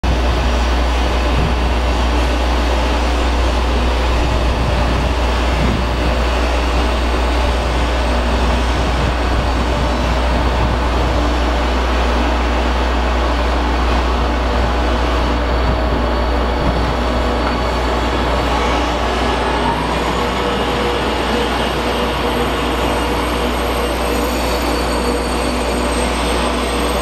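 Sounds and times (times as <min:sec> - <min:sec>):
electric train humming: 0:00.0 - 0:27.0.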